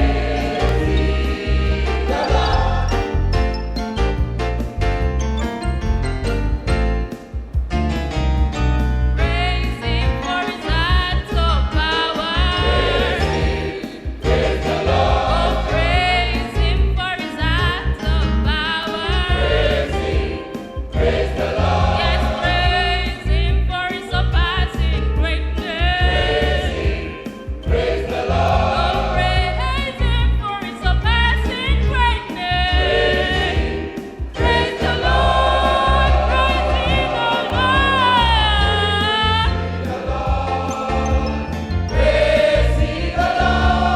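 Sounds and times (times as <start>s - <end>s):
choir singing gospel song: 0.0s - 4.2s, 9.2s - 43.9s.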